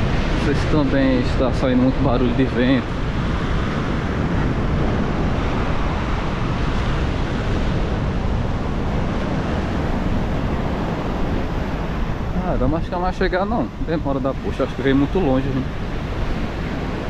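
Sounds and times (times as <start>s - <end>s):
sea surf rushing: 0.0s - 17.0s
wind buffeting microphone: 0.0s - 17.0s.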